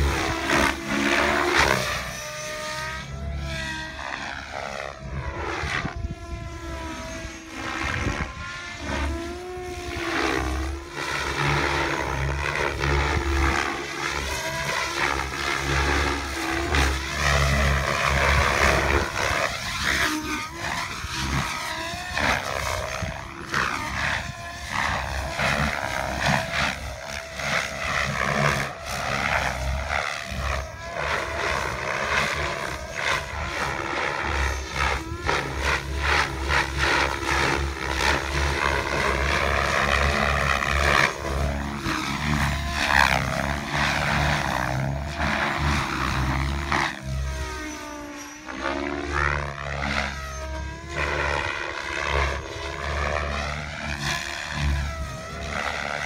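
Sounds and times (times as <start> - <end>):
rc helicopter rotor and motor whine: 0.0 - 56.0.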